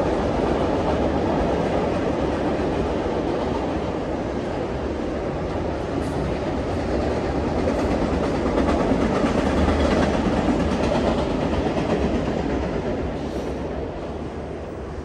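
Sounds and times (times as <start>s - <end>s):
freight train rumbling over trestle: 0.0s - 15.0s.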